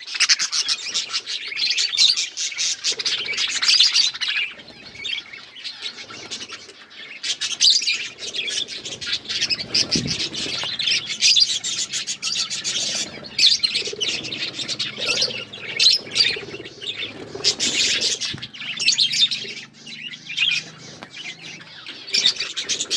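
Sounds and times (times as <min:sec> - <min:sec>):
budgerigars chattering: 0:00.0 - 0:22.9.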